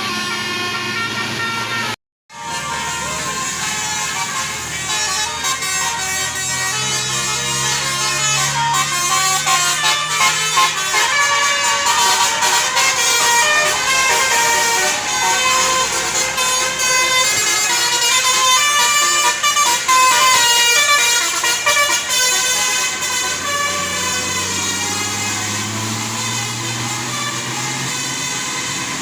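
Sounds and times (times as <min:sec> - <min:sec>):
bus engine running: 0:00.0 - 0:29.0
musical bus horn tune: 0:00.0 - 0:29.0.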